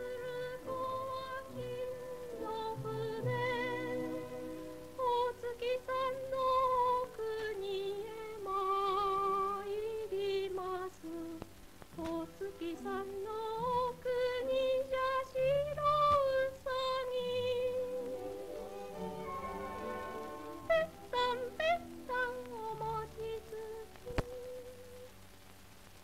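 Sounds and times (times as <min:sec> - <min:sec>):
slow lullaby-like melody: 0:00.0 - 0:25.2
soft accompaniment: 0:00.0 - 0:25.2.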